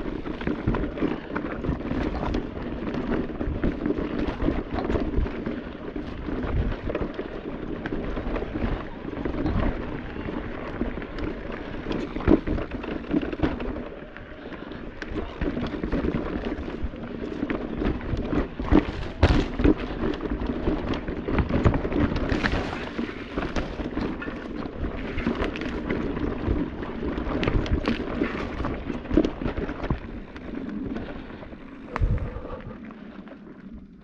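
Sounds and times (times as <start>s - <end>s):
wheels knocking on stones: 0.0s - 32.5s
bike tyres rumbling over rock: 0.0s - 34.0s.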